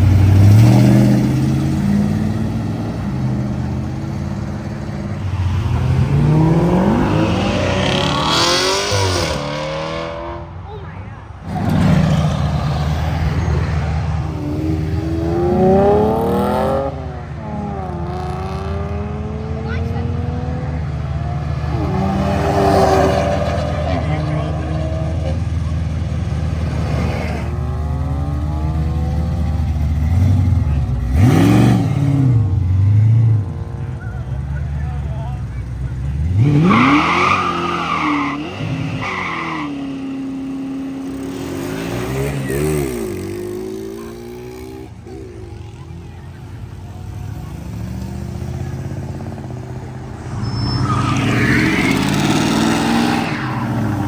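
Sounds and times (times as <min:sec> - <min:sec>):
tires squealing: 0:00.0 - 0:10.3, 0:11.4 - 0:19.0, 0:19.6 - 0:54.0
car engine accelerating: 0:00.0 - 0:54.0.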